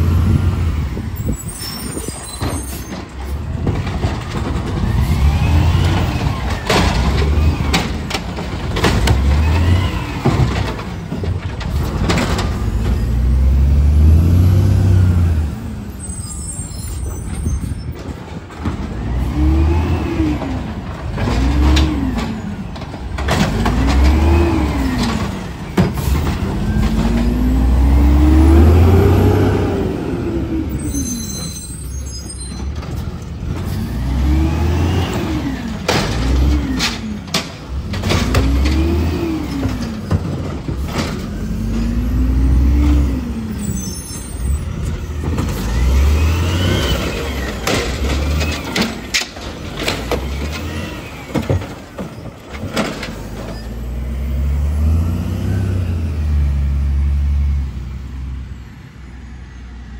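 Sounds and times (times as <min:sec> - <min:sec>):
garbage truck engine revving: 0:00.0 - 0:01.2, 0:03.1 - 0:16.4, 0:18.4 - 0:31.6, 0:32.6 - 0:58.9.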